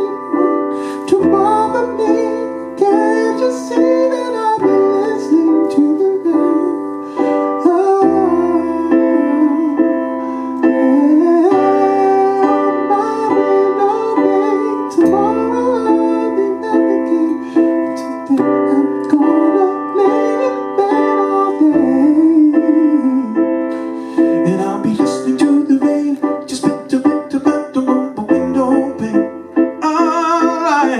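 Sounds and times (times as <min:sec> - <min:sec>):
piano chords: 0:00.0 - 0:30.9
wordless vocal melody: 0:00.0 - 0:30.9.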